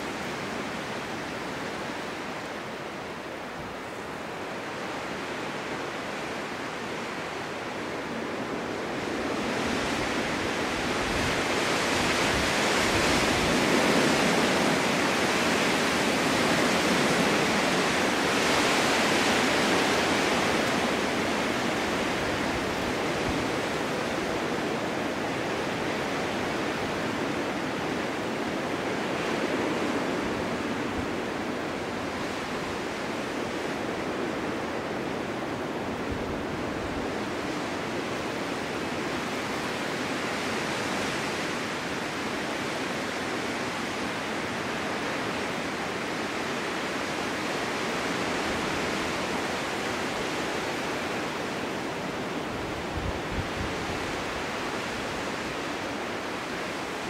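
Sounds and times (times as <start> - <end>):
wind blowing through forest: 0.0 - 57.0.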